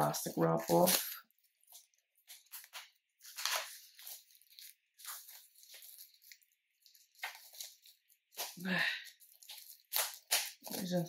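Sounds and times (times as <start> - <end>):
plastic shrink wrap tearing: 0.1 - 11.0.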